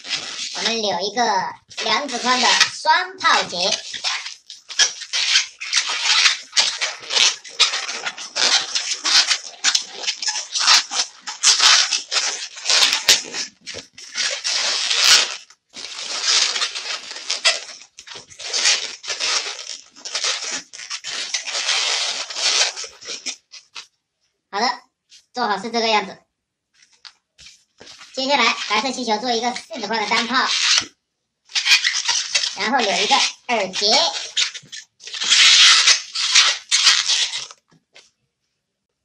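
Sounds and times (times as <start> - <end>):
latex balloon rubbing and twisting: 0.0 - 23.9, 26.8 - 38.0.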